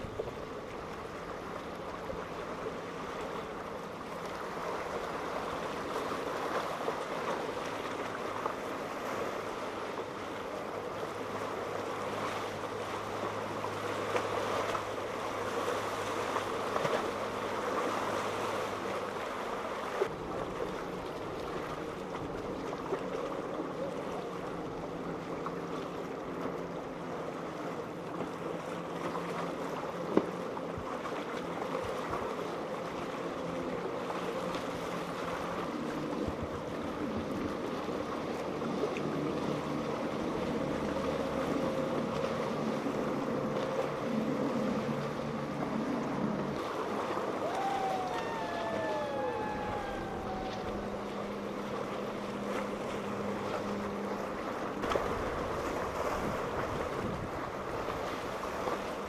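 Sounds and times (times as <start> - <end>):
boat engines running: 0.0 - 59.0
waves washing: 0.0 - 59.0
wind: 0.0 - 59.0.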